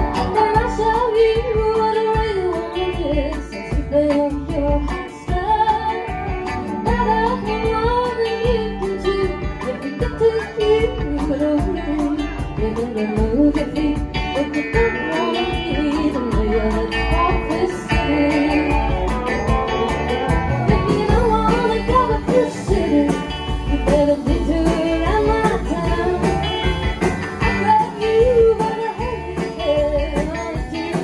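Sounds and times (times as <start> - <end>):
drum kit beat: 0.0 - 31.0
electric guitar: 0.0 - 31.0
upright bass: 0.0 - 31.0
woman singing: 0.0 - 31.0.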